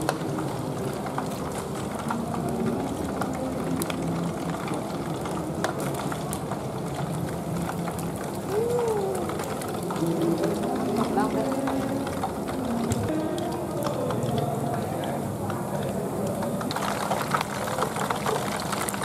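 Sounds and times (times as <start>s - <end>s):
fish deep-frying in hot oil: 0.0s - 19.0s
oil popping and crackling: 0.0s - 19.0s.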